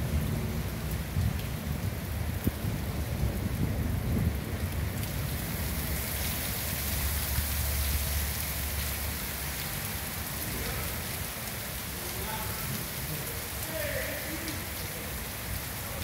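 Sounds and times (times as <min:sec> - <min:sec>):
heavy rain on water and paving: 0:00.0 - 0:16.0.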